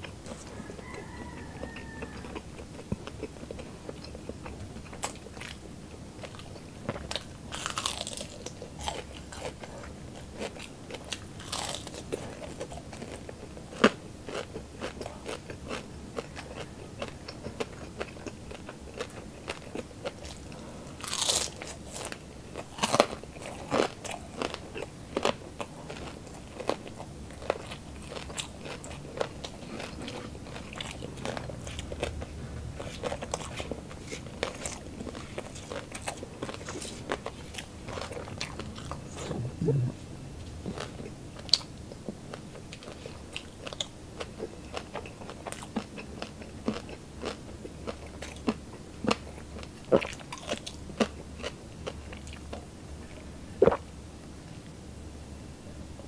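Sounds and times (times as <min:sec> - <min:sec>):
crunching and chewing food: 0:00.0 - 0:54.7.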